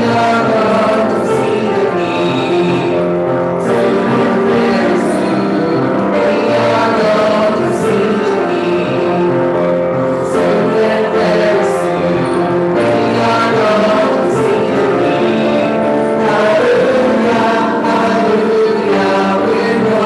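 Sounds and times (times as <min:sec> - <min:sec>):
hymn singing: 0:00.0 - 0:20.0
piano accompaniment: 0:00.0 - 0:20.0.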